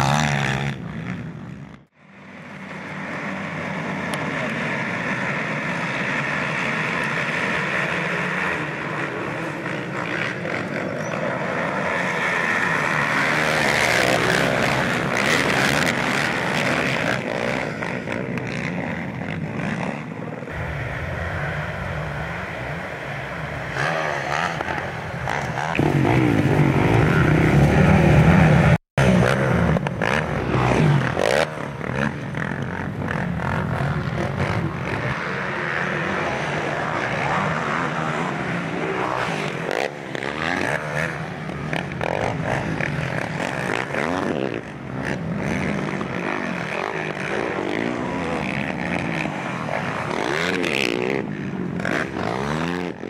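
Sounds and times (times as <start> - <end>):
racing engines revving and passing: 0.0 - 53.0.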